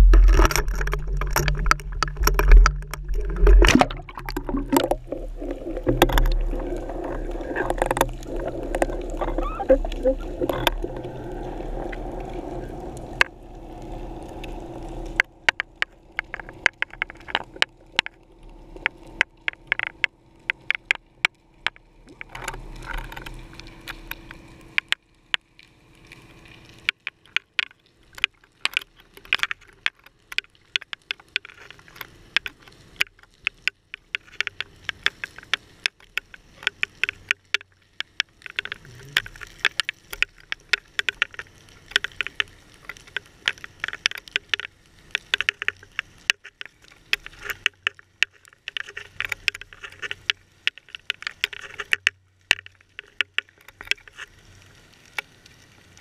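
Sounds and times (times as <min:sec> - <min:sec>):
underwater clicks and crackles: 0:00.0 - 0:56.0.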